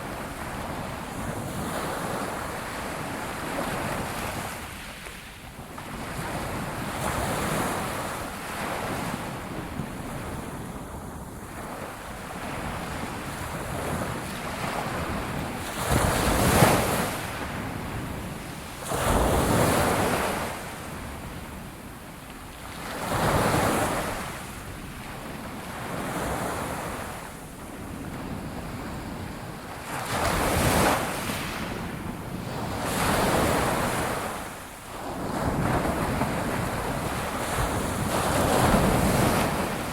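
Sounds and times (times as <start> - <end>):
ocean waves breaking on shore: 0.0 - 39.9
wind: 0.0 - 39.9.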